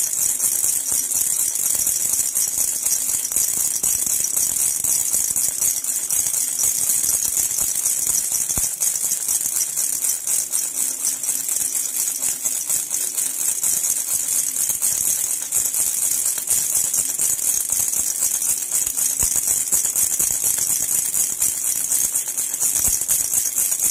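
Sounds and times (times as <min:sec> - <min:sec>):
baby rattle jingling: 0:00.0 - 0:23.9.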